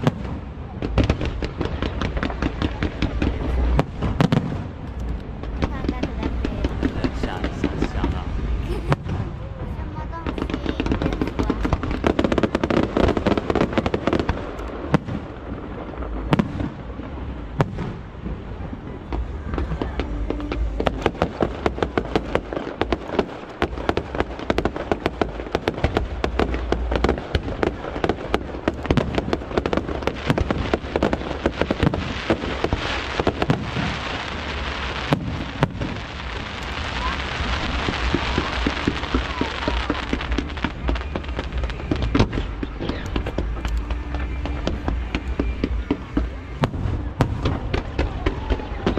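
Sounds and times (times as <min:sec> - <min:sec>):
fireworks bangs and crackles: 0:00.0 - 0:48.9
hissing crackling firework shower: 0:00.0 - 0:48.9.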